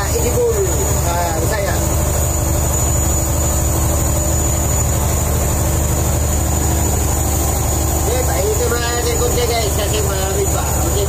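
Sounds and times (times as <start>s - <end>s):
boat engine throbbing: 0.0s - 11.0s.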